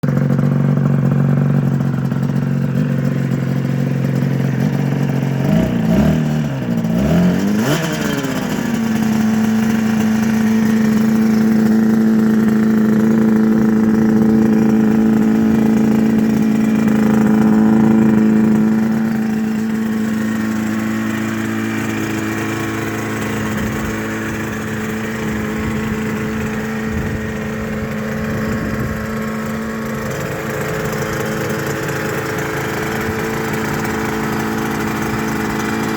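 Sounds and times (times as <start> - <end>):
two-stroke engine idling and revving: 0.0 - 35.9.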